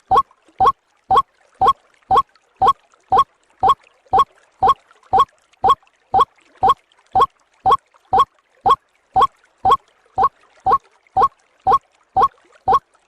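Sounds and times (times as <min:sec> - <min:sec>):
waterhen call: 0:00.0 - 0:12.8.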